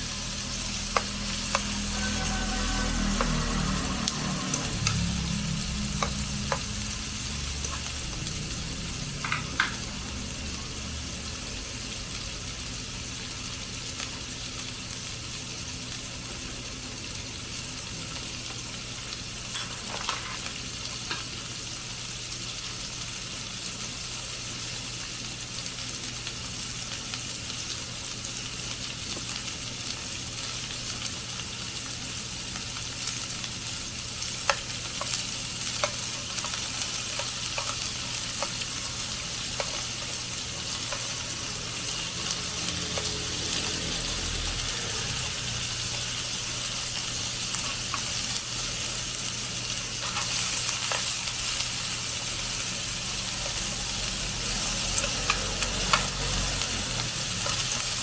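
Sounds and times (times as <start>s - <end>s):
beef and onion sizzling in a pan: 0.0s - 58.0s.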